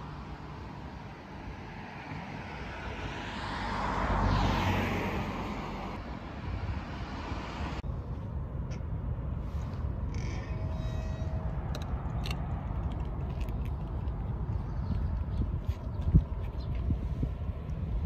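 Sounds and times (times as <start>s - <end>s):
wind rumbling on microphone: 1.5s - 18.0s.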